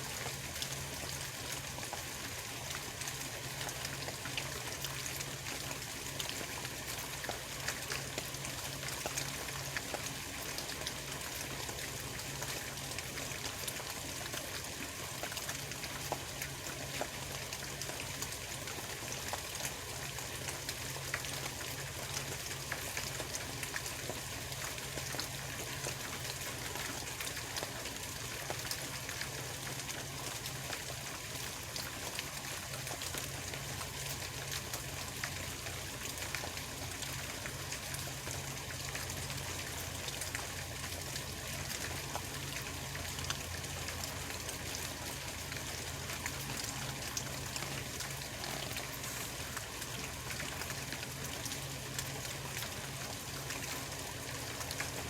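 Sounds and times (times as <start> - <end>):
low steady hum: 0.0 - 55.0
rain pattering: 0.0 - 55.0.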